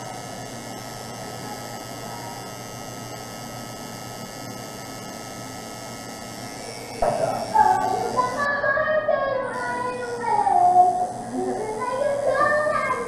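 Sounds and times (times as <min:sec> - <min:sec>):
tattoo machine humming: 0:00.0 - 0:13.0.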